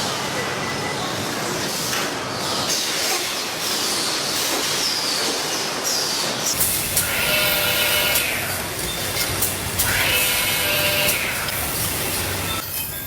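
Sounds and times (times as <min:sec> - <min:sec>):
factory machinery metallic clatter: 0:01.7 - 0:13.0.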